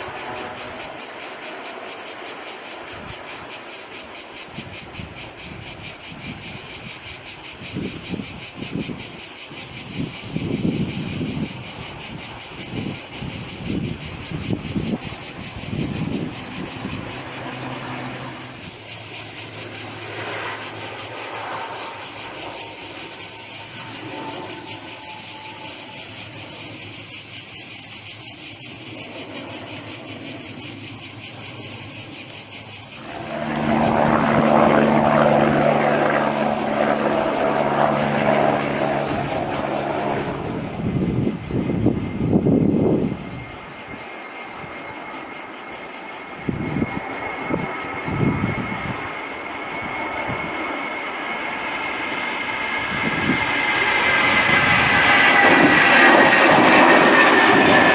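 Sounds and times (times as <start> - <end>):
jet engines passing: 0.0 - 57.9.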